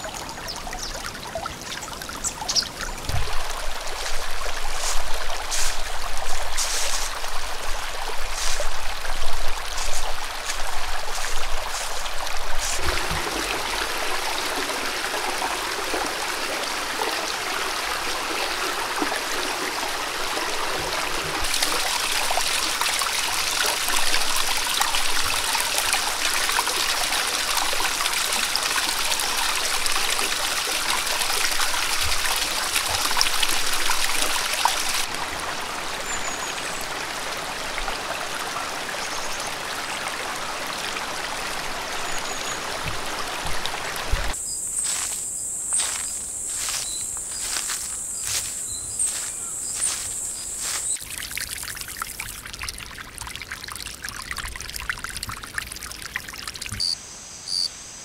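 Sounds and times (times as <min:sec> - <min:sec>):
stream splashing over rocks: 0:00.0 - 0:45.1, 0:45.8 - 0:56.9.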